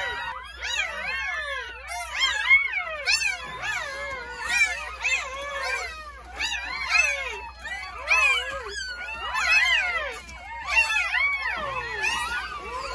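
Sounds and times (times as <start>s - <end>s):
puppies crying and squealing: 0.0s - 12.9s.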